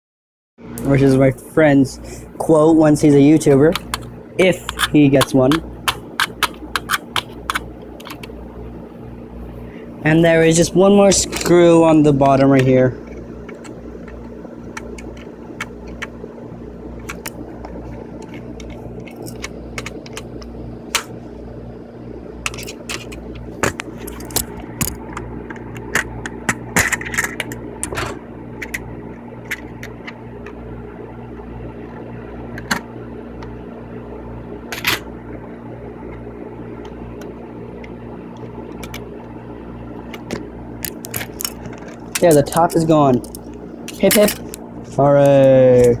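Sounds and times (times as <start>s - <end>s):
low electrical hum: 0.6s - 46.0s.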